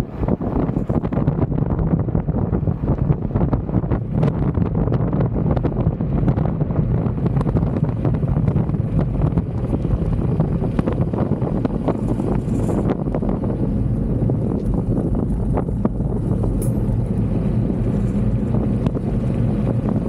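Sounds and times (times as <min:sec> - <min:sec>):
scooter tyre rumble on rough road: 0:00.0 - 0:20.0
wind buffeting microphone: 0:00.0 - 0:20.0.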